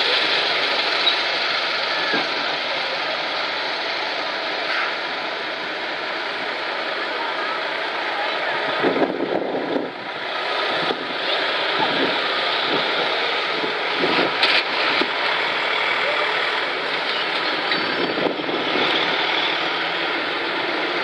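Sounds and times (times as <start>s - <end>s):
trucks driving past: 0.0s - 21.0s
voices of onlookers: 0.0s - 21.0s.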